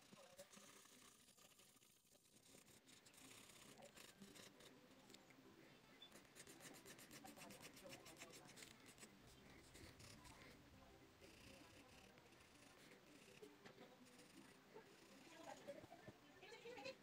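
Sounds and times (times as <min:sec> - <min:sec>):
pencil scratching on paper: 0:00.0 - 0:04.8, 0:06.1 - 0:10.6, 0:11.3 - 0:15.7.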